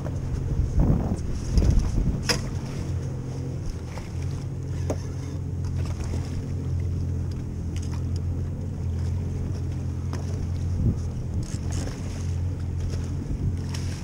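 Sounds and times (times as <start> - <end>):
outboard motor idling: 0.0 - 14.0
water noise: 0.0 - 14.0
wind: 0.0 - 14.0.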